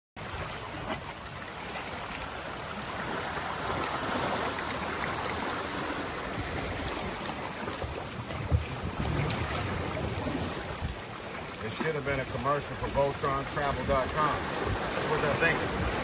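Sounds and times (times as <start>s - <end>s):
small waves washing over sand: 0.2s - 16.0s.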